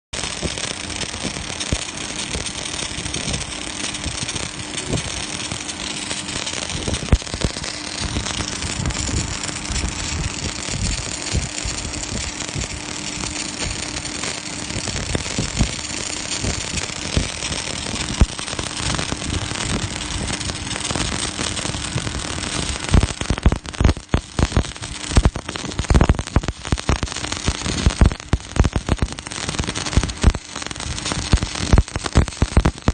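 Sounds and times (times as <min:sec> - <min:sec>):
welding arc crackling: 0:00.2 - 0:32.9.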